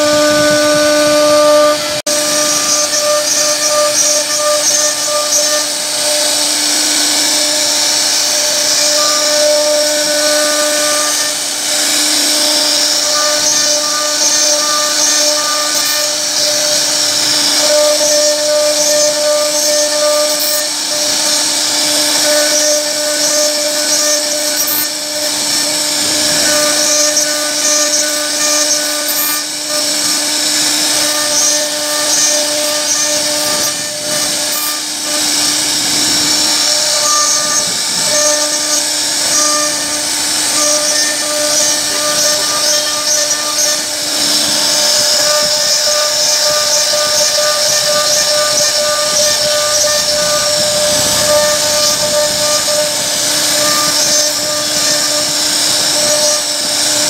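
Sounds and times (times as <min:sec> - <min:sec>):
bit cutting wood hissing: 0:00.0 - 0:57.0
router spindle whine: 0:00.0 - 0:57.0.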